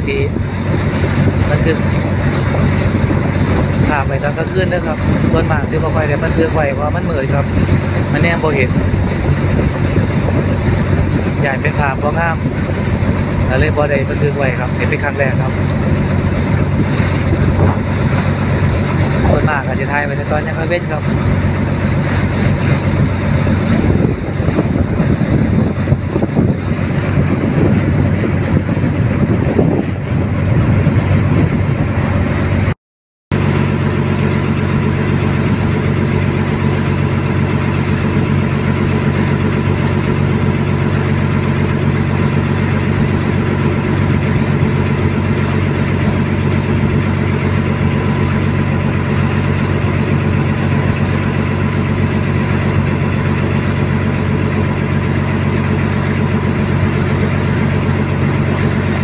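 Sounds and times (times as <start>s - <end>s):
wind buffeting microphone: 0.0s - 32.7s, 33.4s - 59.0s
boat engine running: 0.0s - 59.0s.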